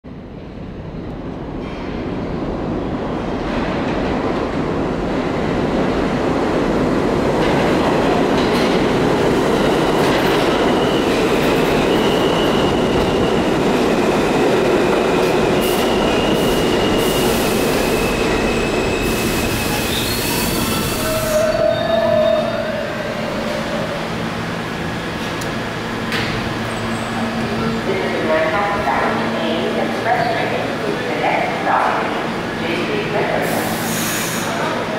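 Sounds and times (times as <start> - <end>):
subway train rumbling on rails: 0.0 - 34.9.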